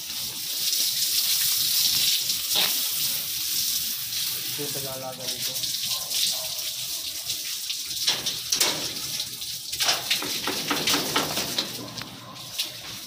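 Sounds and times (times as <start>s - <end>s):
water spraying from garden hose: 0.0s - 13.0s.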